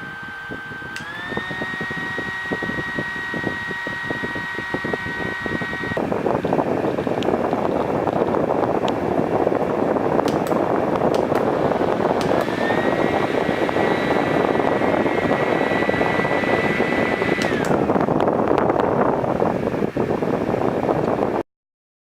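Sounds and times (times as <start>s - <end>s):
handheld fan airflow rushing: 0.0s - 21.4s
thin motor whine: 0.0s - 21.4s.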